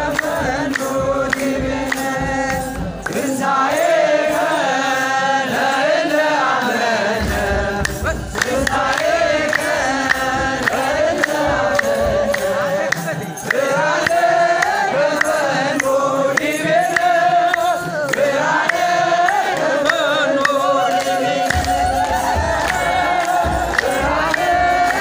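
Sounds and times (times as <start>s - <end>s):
men singing liturgical chant: 0.0s - 25.0s
rhythmic hand clapping: 0.0s - 25.0s.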